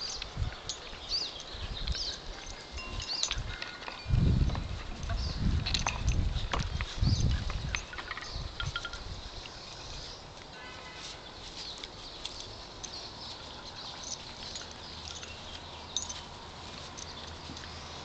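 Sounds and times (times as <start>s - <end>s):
dogs scuffling on grass: 0.0s - 18.0s.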